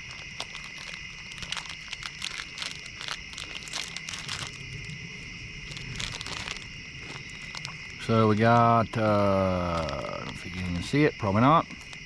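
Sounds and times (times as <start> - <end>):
plastic packet crinkling: 0.0 - 5.0, 5.6 - 10.9, 11.6 - 12.0
high insect drone: 0.0 - 12.0.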